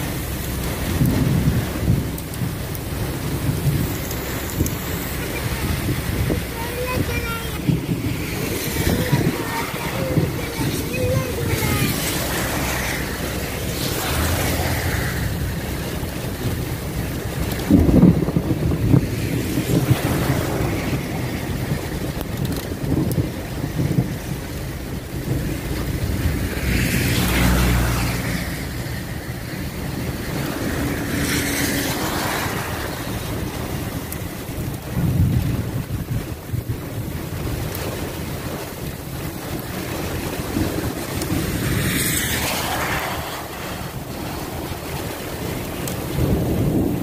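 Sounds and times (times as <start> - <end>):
car rumble: 0.0 - 47.0
car tyres on flooded road: 0.0 - 47.0
heavy rain: 0.0 - 47.0
wind: 0.0 - 47.0.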